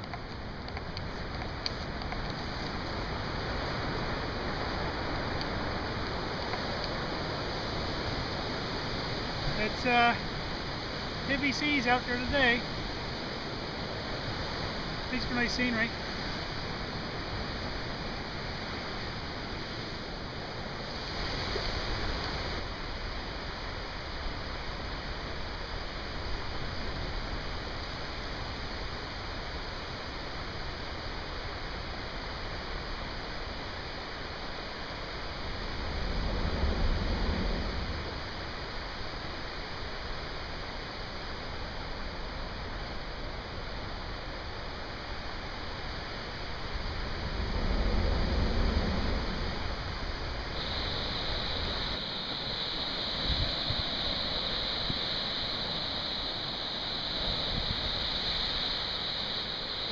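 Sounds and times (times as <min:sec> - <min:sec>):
waves breaking on rocky shore: 0:00.0 - 0:59.9.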